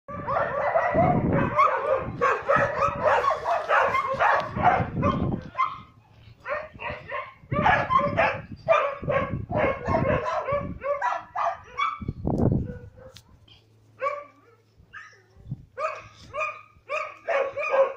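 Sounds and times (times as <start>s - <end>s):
dog barking and yipping: 0.1s - 13.3s, 14.0s - 15.2s, 15.8s - 17.9s.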